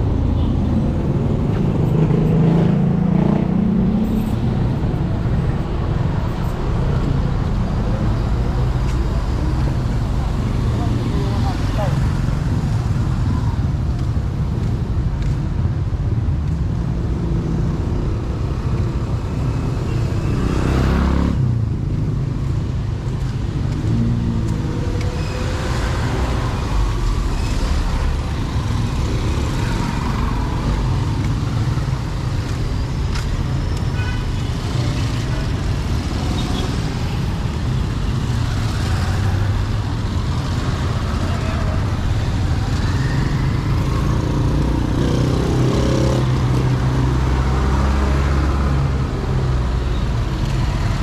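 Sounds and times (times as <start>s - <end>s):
motor vehicles passing: 0.0s - 51.0s.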